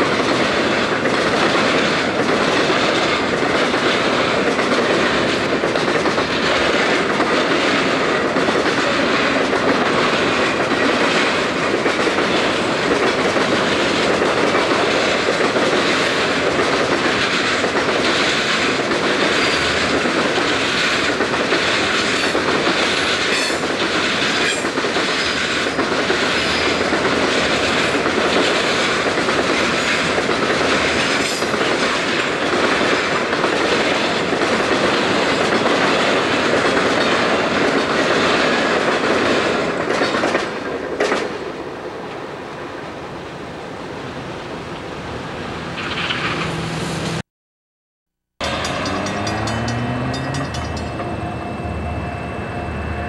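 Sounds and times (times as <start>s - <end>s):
wheels clicking over rail joints: 0.0s - 41.5s, 48.4s - 51.2s
train wheels rumbling on rail: 0.0s - 47.2s, 48.4s - 53.0s.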